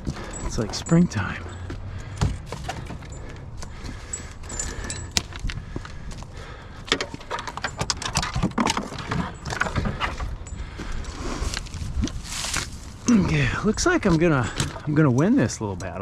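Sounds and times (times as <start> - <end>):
tools clattering and knocking: 0.0 - 12.2, 13.6 - 16.0
metal jingling: 0.0 - 16.0.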